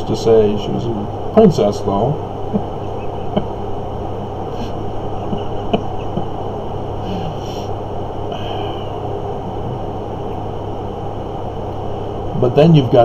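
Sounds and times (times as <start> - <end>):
room noise hum and hiss: 0.0 - 13.0.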